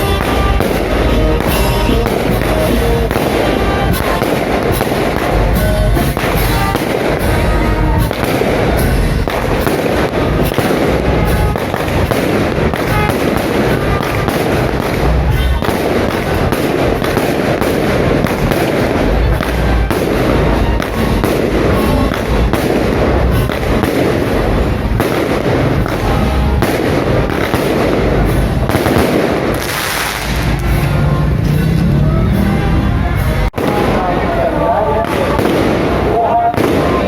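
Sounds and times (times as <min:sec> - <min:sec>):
deep fireworks booms: 0:00.0 - 0:37.0
fireworks bangs and crackles: 0:00.0 - 0:37.0.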